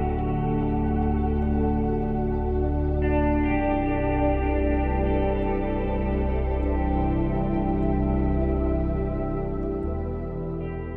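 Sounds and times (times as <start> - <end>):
slow ambient music: 0.0 - 10.9.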